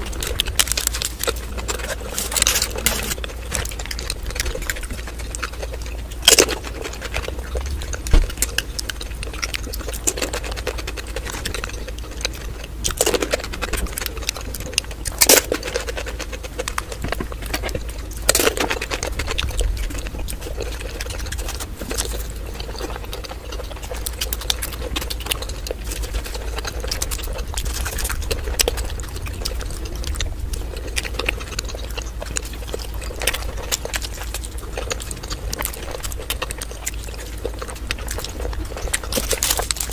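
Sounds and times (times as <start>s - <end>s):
crunching and chewing food: 0.0s - 39.9s
steady low hum: 0.0s - 39.9s.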